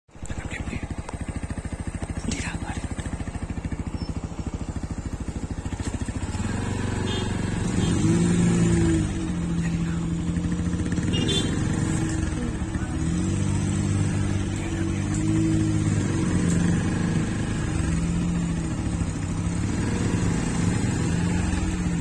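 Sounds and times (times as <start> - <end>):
engine idling: 0.1 - 22.0.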